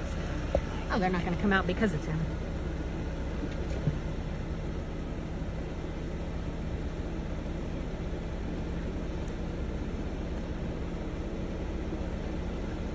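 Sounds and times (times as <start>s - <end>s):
faint hum: 0.0s - 12.9s
low rumbling background noise: 0.0s - 12.9s.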